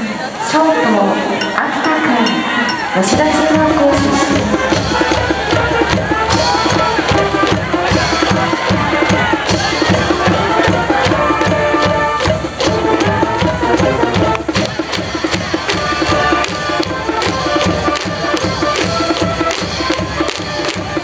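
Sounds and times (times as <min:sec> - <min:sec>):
brass cheer song: 0:01.0 - 0:21.0
fast drum beat: 0:01.4 - 0:21.0.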